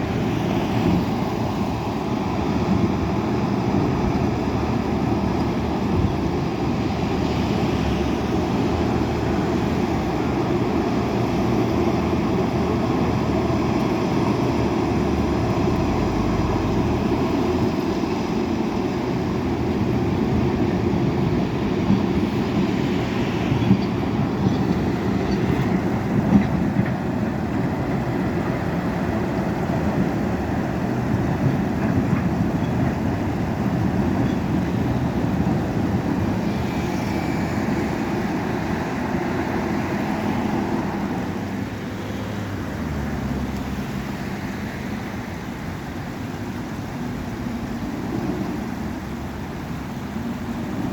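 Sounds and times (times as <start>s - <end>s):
heavy machinery diesel engines: 0.0s - 50.9s.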